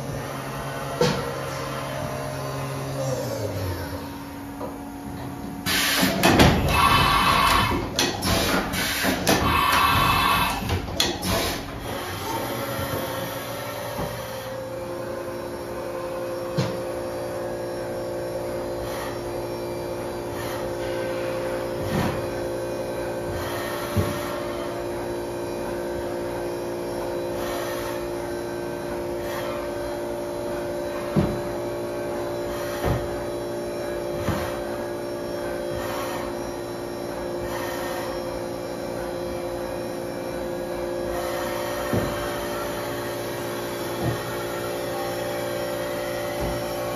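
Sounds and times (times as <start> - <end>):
machine whine over hum: 0.0 - 46.9.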